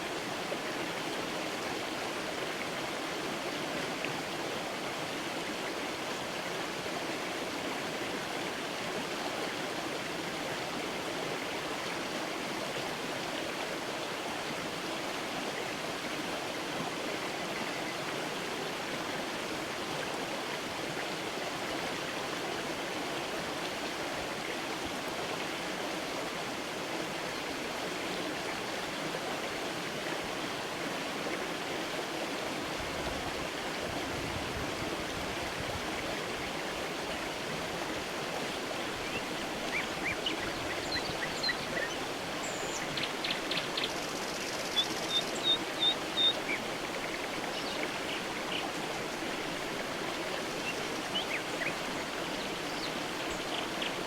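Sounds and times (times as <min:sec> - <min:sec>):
creek water rushing over stones: 0:00.0 - 0:54.0.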